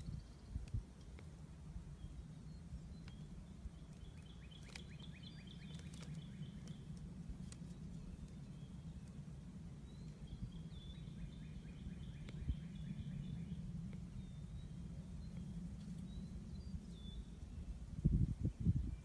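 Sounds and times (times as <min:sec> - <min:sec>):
steady low rumble: 0:00.0 - 0:19.0
birds chirping: 0:01.8 - 0:19.0.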